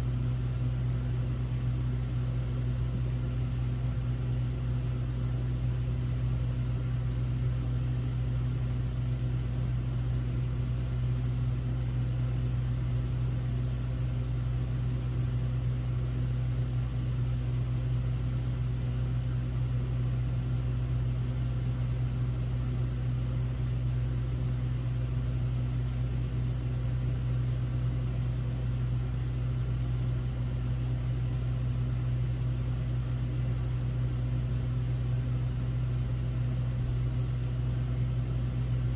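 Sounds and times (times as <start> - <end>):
air conditioner humming: 0.0 - 38.9.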